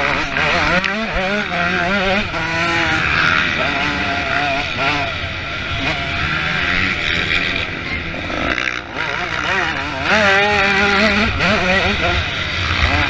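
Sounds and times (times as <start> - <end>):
motocross engines revving: 0.0 - 13.0.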